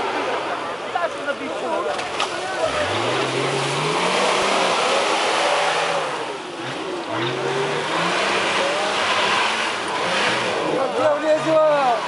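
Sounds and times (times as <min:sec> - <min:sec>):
off-road engine revving: 0:01.9 - 0:12.0.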